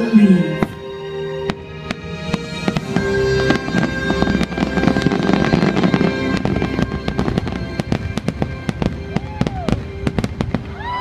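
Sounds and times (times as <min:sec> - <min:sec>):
music with long held notes: 0:00.0 - 0:11.0
fireworks bursting and crackling: 0:00.5 - 0:11.0.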